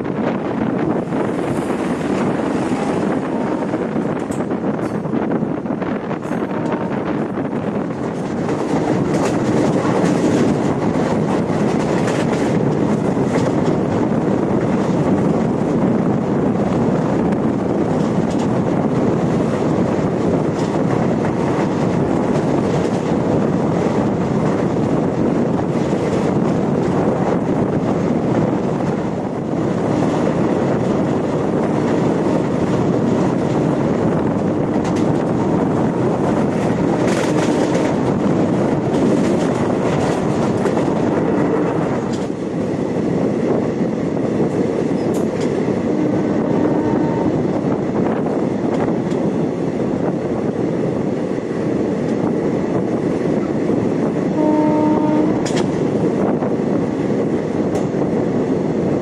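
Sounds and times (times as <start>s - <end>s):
train rattling: 0.0s - 59.0s
train wheels rumbling on rails: 0.0s - 59.0s.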